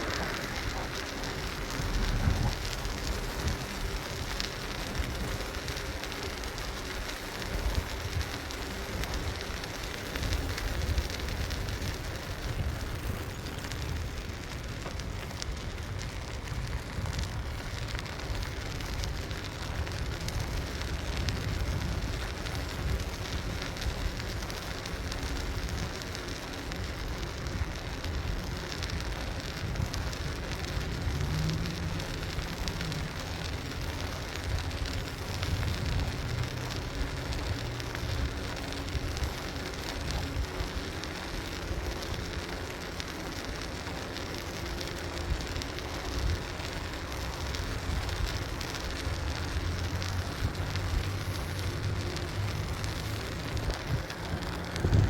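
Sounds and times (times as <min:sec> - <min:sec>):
tyres hissing on pavement: 0:00.0 - 0:55.0
wind rumbling on microphone: 0:00.0 - 0:55.0.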